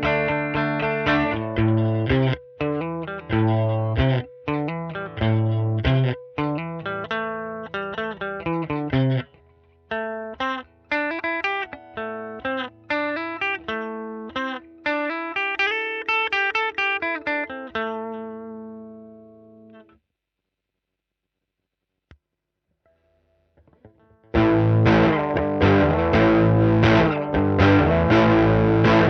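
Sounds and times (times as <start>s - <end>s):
clean electric guitar: 0.0s - 20.0s, 23.6s - 29.0s.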